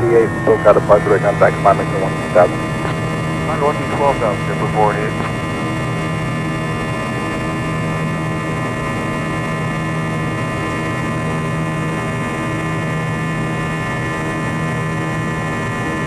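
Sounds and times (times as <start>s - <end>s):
jet engines droning in cabin: 0.0s - 16.0s.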